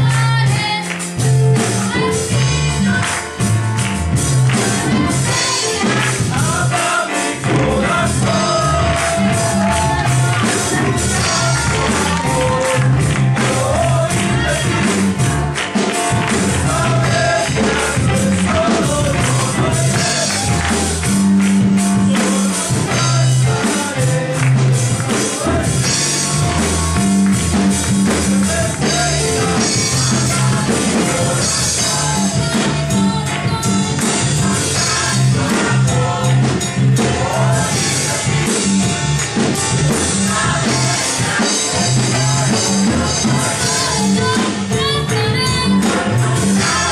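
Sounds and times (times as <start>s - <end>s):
choir singing upbeat song: 0.0s - 46.9s
live instrumental backing: 0.0s - 46.9s
steady percussive beat: 0.0s - 46.9s.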